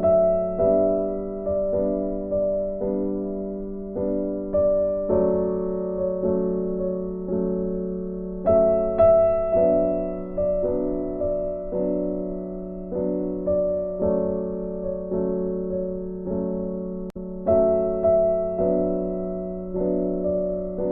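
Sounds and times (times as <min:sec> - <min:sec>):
gentle piano piece: 0:00.0 - 0:20.9.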